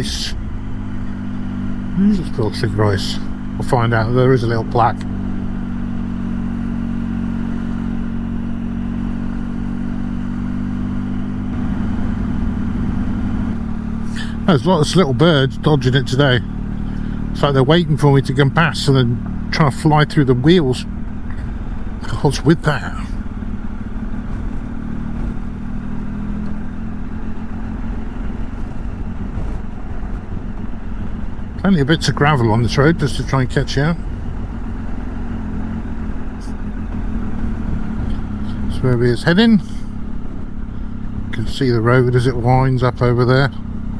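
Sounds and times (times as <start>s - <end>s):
motorcycle engine running: 0.0s - 43.9s
road rumble: 0.0s - 43.9s
wind: 0.0s - 43.9s.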